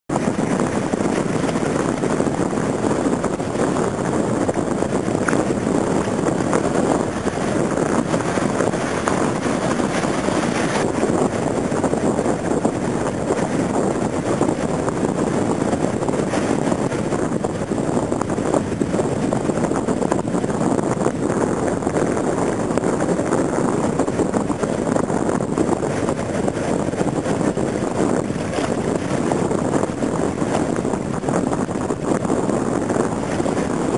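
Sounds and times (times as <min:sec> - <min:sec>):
ocean surf breaking: 0:00.1 - 0:33.9.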